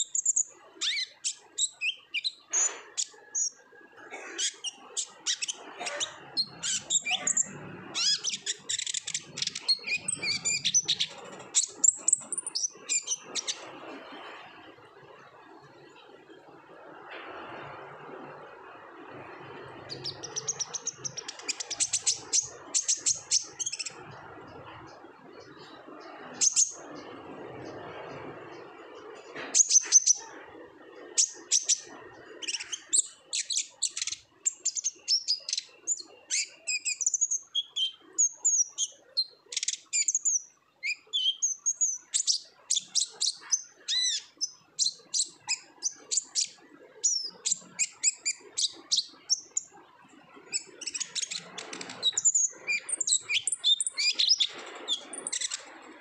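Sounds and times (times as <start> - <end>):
bird chirping: 0.0 - 14.4, 19.6 - 55.9.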